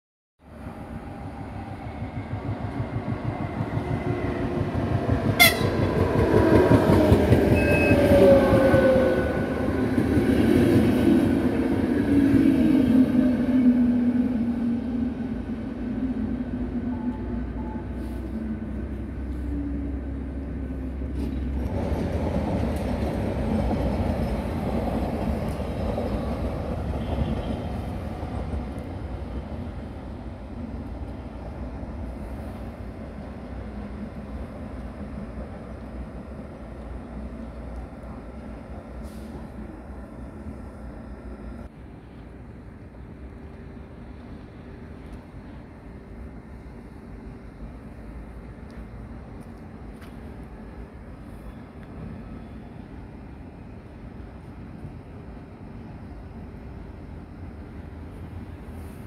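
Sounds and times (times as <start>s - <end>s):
train wheel and rail noise: 0.4s - 59.0s.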